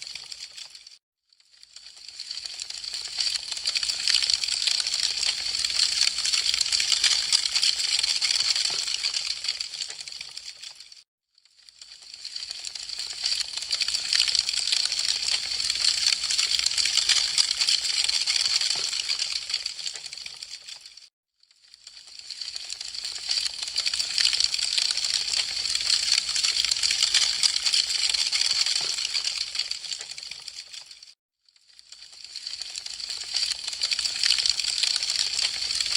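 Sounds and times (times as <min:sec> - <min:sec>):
wood fire crackling: 0:01.7 - 0:10.8, 0:11.8 - 0:20.8, 0:23.8 - 0:30.9, 0:32.3 - 0:35.9.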